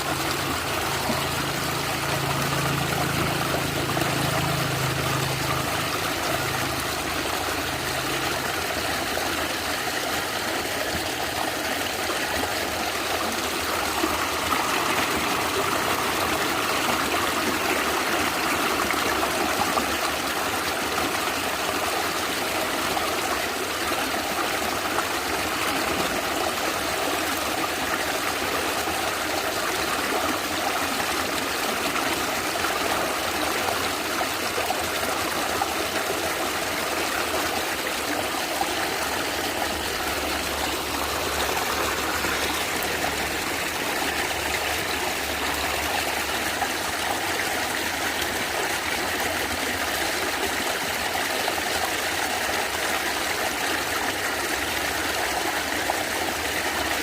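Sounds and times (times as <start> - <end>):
stream water gurgling: 0.0 - 57.0.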